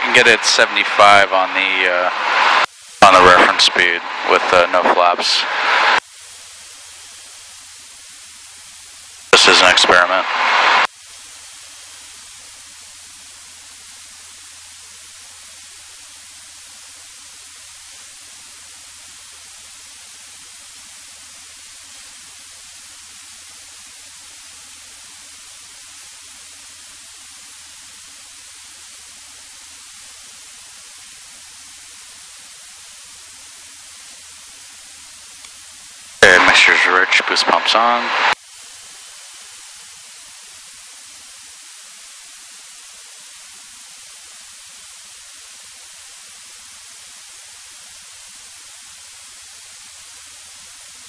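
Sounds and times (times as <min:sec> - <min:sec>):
intercom static hiss: 0:00.0 - 0:51.0.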